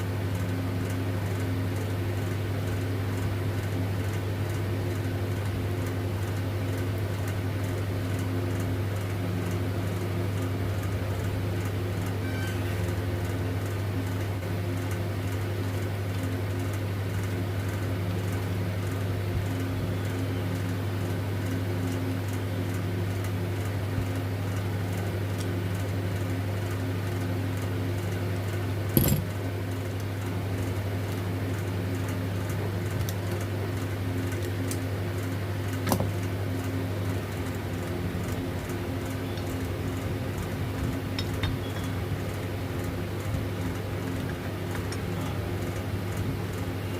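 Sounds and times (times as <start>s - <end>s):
steady electrical hum: 0.0s - 46.9s.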